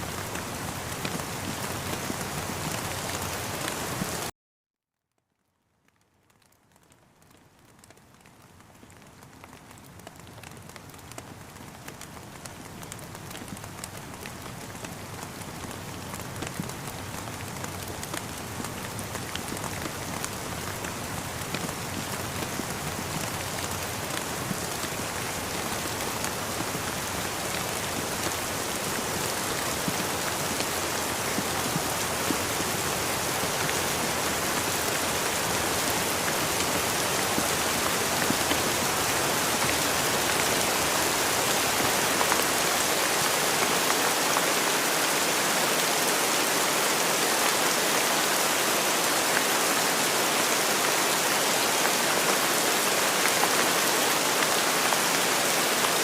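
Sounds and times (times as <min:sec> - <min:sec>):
steady rain falling: 0:00.0 - 0:04.3, 0:05.2 - 0:56.0.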